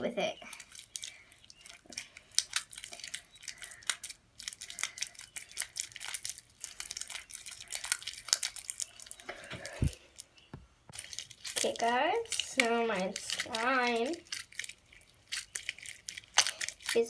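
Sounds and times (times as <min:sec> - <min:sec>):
slime squished by hand: 0:00.4 - 0:10.2, 0:10.9 - 0:17.0.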